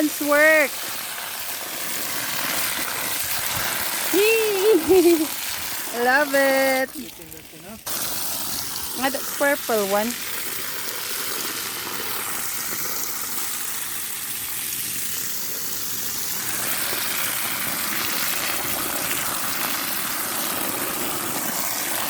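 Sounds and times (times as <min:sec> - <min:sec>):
hose spraying water on soil: 0:00.0 - 0:22.0.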